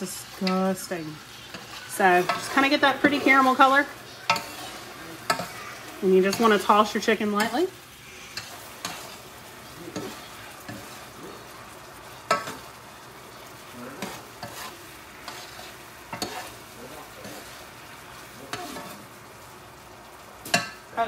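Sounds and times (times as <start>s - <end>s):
metal spoon scraping a pan: 0.0s - 12.8s, 13.4s - 19.1s
chicken sizzling in a skillet: 0.0s - 21.0s.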